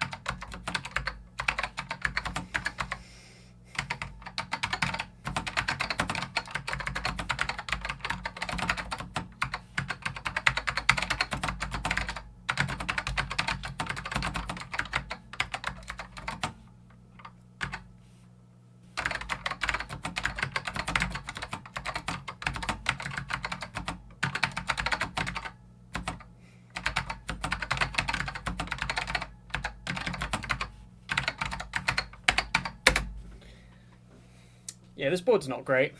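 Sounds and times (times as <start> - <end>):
fast keyboard typing: 0.0 - 3.0, 3.8 - 16.6, 17.2 - 17.9, 19.0 - 33.1.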